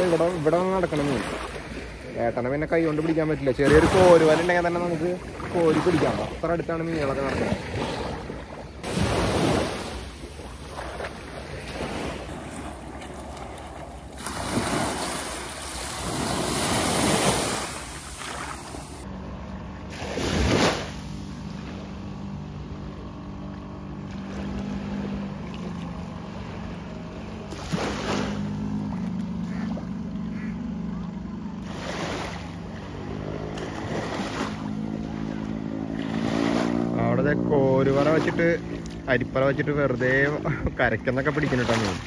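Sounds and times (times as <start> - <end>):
small waves washing onto sand: 0.0 - 19.1, 19.9 - 29.9, 31.6 - 42.0
boat engine humming: 0.0 - 42.0.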